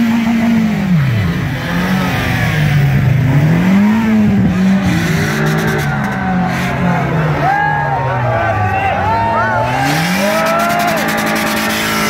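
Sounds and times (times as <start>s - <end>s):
car engine revving: 0.0s - 12.0s
crowd noise: 0.0s - 12.0s.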